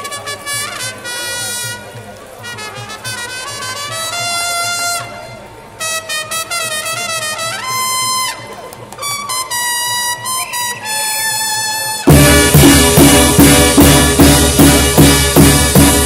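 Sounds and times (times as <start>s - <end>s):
brass band playing slow ballad: 0.0s - 16.0s.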